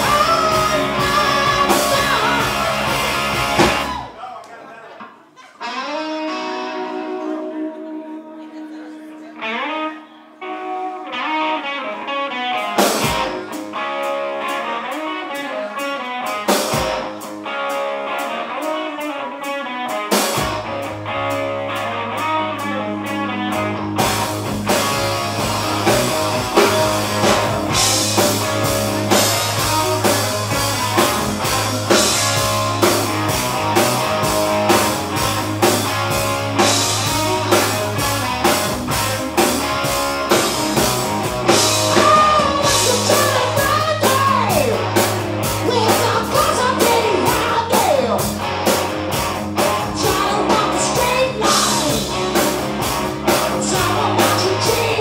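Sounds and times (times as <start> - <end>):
bass guitar: 0.0 - 4.2, 5.6 - 55.0
drum kit rock beat: 0.0 - 4.2, 10.9 - 55.0
electric guitar riff: 0.0 - 4.2, 5.5 - 55.0.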